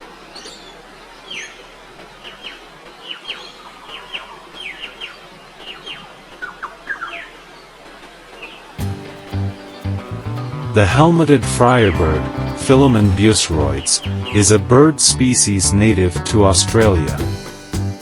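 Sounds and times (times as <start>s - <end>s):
bird calling: 0.4s - 16.0s.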